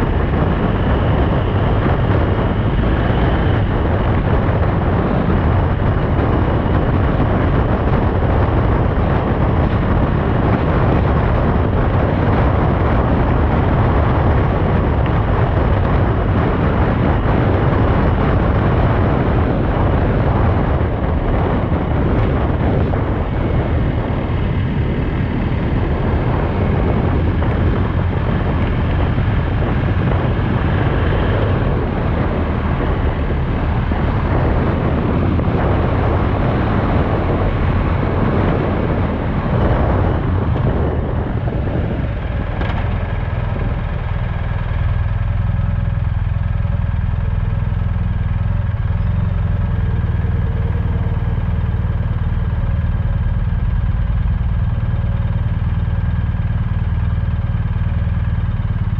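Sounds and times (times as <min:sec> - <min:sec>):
heavy low rumble: 0:00.0 - 0:58.9
motorcycle road noise: 0:00.0 - 0:58.9
wind rush: 0:00.0 - 0:58.9.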